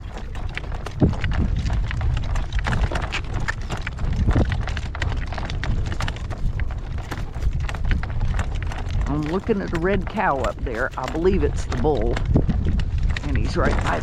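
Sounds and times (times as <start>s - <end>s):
horse hooves clip-clopping: 0.0s - 14.0s
wind rumbling on microphone: 0.0s - 14.0s.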